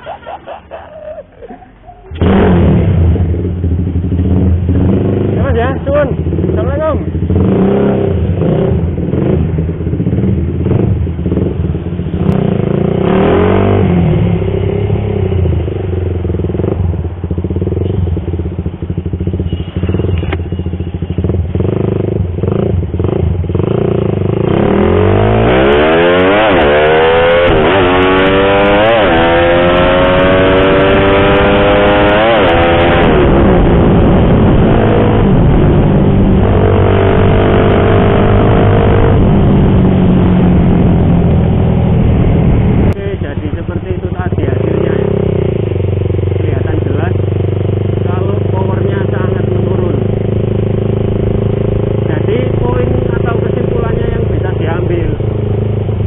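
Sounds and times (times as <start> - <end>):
motorcycle engine while riding: 2.1 - 56.0.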